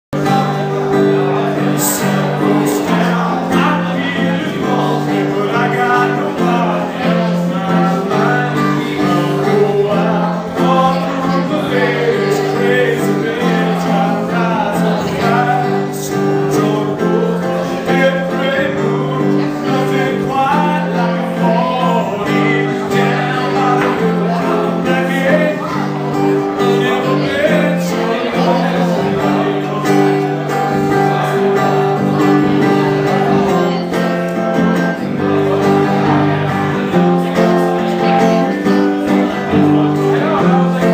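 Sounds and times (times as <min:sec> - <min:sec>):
man singing: 0:00.1 - 0:40.9
strummed guitar: 0:00.1 - 0:40.9.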